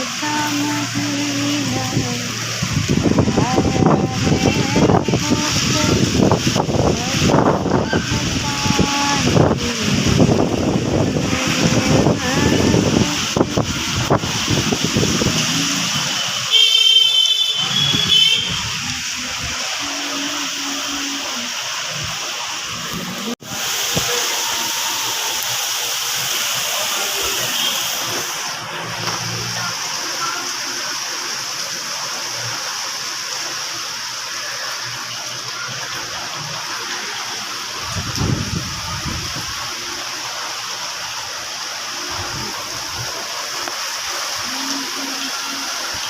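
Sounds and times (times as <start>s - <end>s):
heavy rain pouring: 0.0s - 46.0s
water gushing and splashing: 0.0s - 46.0s.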